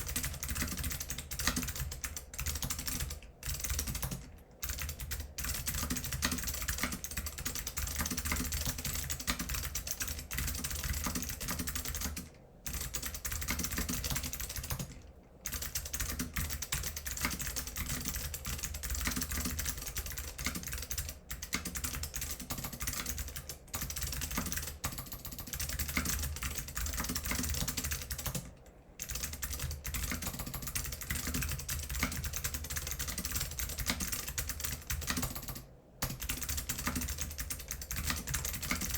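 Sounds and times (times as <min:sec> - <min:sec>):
fast typing on clicky keyboard: 0:00.0 - 0:38.9.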